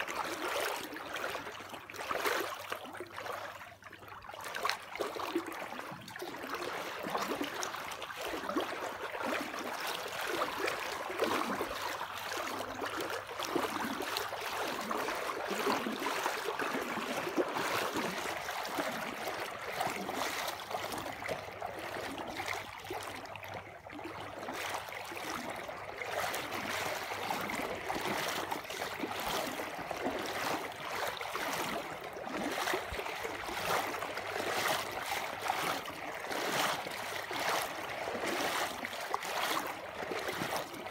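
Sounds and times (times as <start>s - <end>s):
fast-flowing water rushing: 0.0s - 2.6s, 5.3s - 23.2s, 24.2s - 40.9s.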